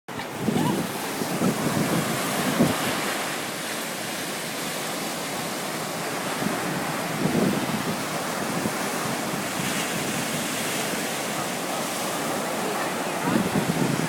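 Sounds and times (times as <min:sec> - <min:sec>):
sea waves washing: 0:00.1 - 0:14.0
wind buffeting microphone: 0:00.1 - 0:14.0.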